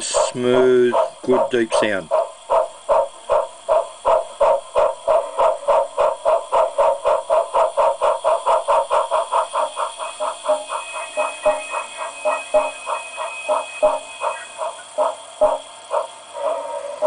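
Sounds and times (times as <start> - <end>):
steam locomotive chuffs from speaker: 0.0 - 17.0.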